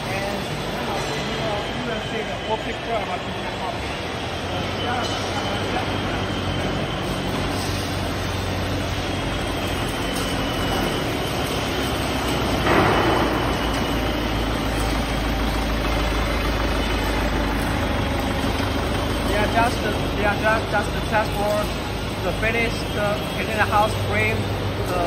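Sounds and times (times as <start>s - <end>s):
loud burst of workshop noise: 0.0s - 25.0s
machinery hum: 0.0s - 25.0s.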